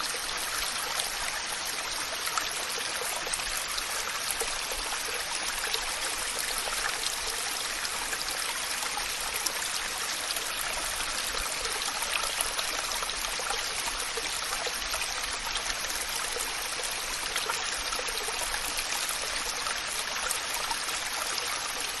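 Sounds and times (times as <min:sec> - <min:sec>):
waterfall pouring and splashing: 0:00.0 - 0:22.0.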